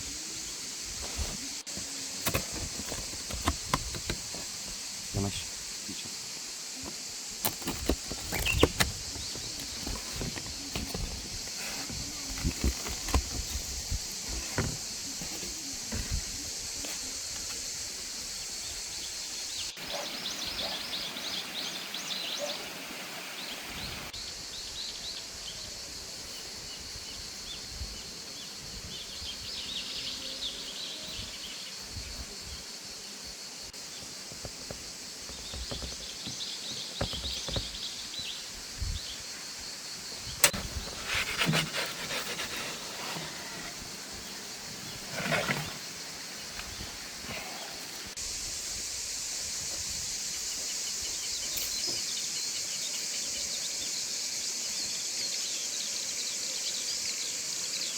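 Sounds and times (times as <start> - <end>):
small birds chirping: 0.0 - 25.6, 26.7 - 48.2
steady high hiss: 0.0 - 57.9.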